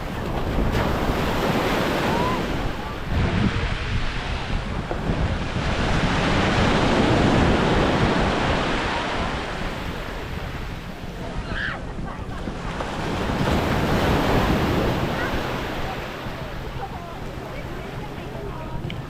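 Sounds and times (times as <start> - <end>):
waves washing onto beach: 0.0 - 19.0
wind buffeting microphone: 0.0 - 19.0.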